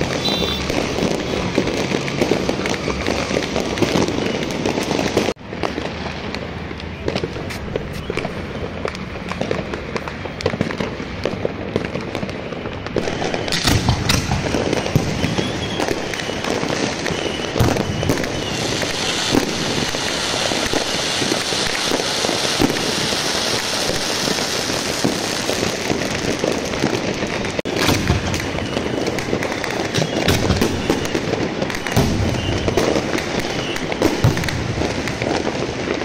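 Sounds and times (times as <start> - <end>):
continuous firework crackle: 0.0 - 36.0.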